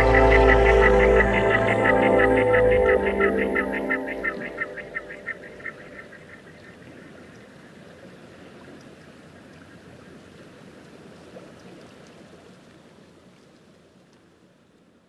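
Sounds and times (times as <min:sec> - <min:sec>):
running water stream: 0:00.0 - 0:15.0.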